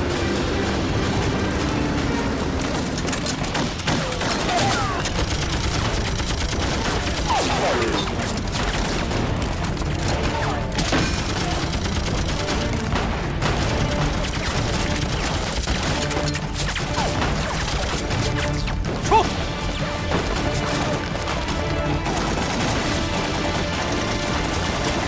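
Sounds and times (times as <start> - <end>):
background film music: 0.0 - 25.0
gunshots: 0.0 - 25.0.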